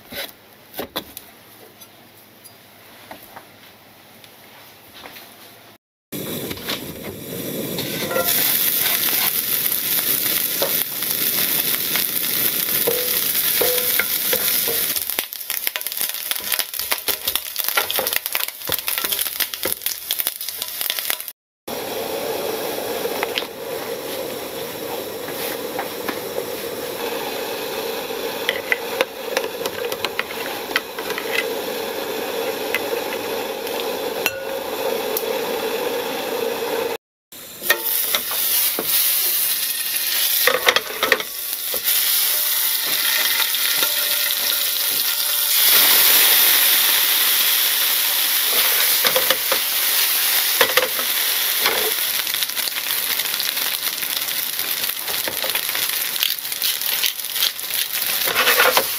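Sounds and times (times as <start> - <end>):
bacon sizzling in a frying pan: 6.2 - 58.9
water boiling in a pot: 6.2 - 58.9.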